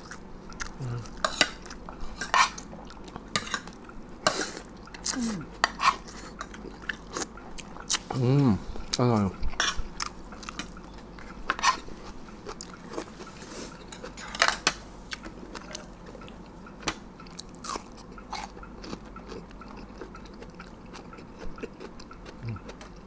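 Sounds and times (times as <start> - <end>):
chewing and crunching: 0.0 - 8.2, 8.8 - 23.0.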